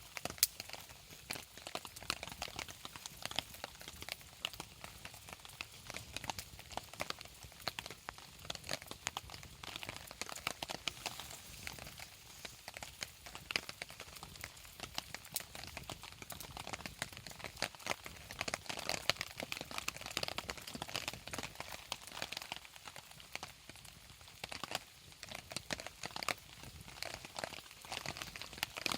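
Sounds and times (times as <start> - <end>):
campfire crackling: 0.0 - 28.9
rain pattering: 0.0 - 28.9.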